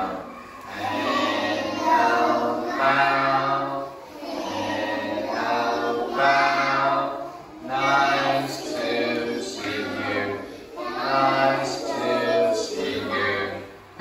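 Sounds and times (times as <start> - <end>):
voices singing together: 0.0 - 14.0.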